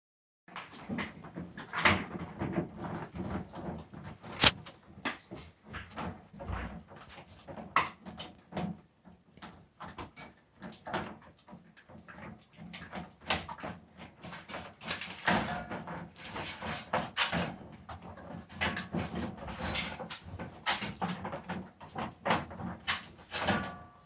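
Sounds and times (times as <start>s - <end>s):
animal chewing and gnawing: 0.5s - 24.0s.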